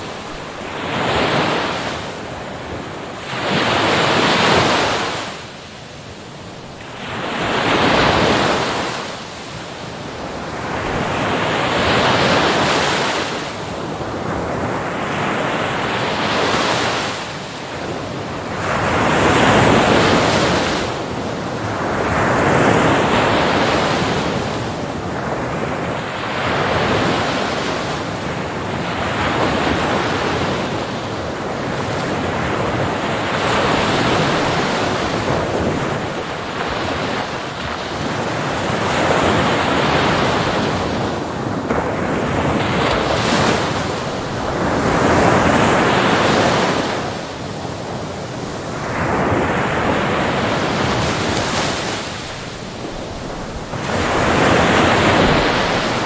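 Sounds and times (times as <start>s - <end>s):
ocean waves breaking on beach: 0.0s - 56.0s
wind buffeting microphone: 6.0s - 56.0s.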